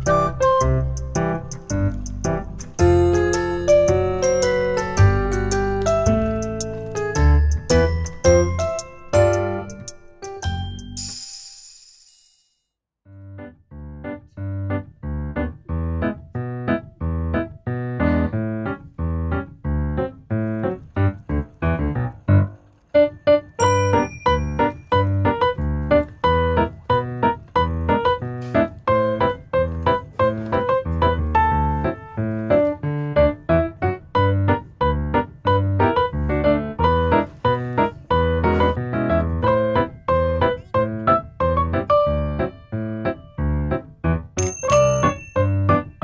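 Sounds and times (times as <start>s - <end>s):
keyboard melody: 0.0s - 11.2s, 13.1s - 46.0s.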